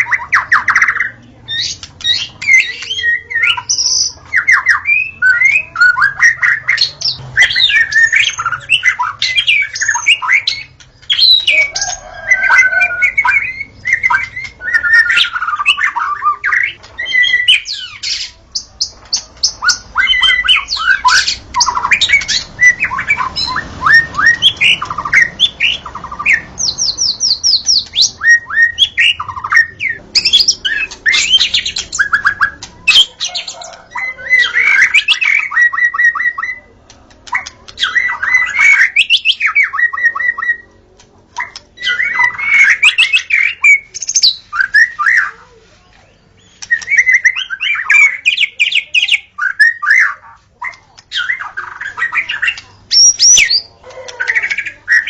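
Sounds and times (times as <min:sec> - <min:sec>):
songbird whistles and trills: 0:00.0 - 0:40.7, 0:41.4 - 0:55.0.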